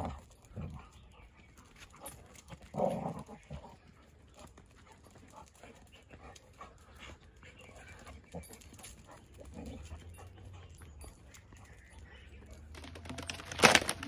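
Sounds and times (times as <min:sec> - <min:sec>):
dogs scuffling: 0:00.0 - 0:14.0.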